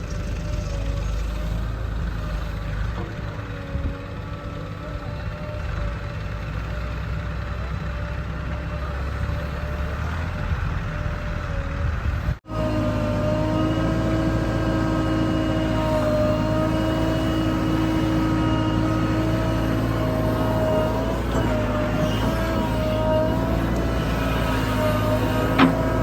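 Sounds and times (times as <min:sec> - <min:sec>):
diesel machinery engine running: 0:00.0 - 0:26.0.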